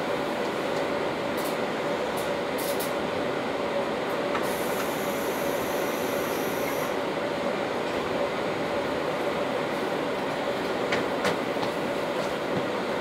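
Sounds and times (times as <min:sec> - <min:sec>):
standing train hum and rumble: 0:00.0 - 0:13.0.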